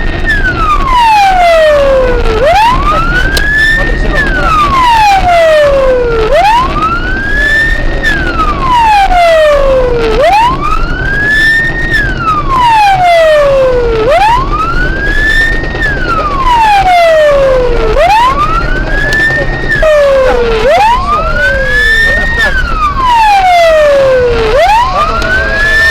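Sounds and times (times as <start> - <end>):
engine and road noise: 0.0 - 25.9
police siren wailing: 0.0 - 25.9.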